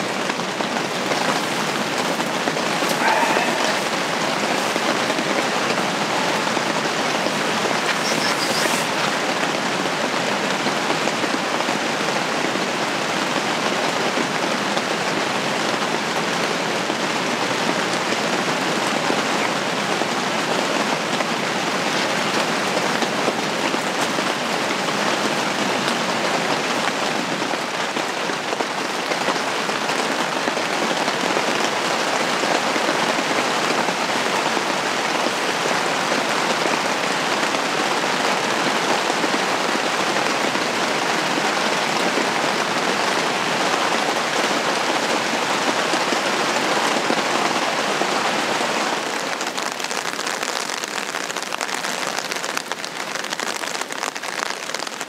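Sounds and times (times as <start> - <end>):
rain pattering on fabric: 0.0 - 55.0.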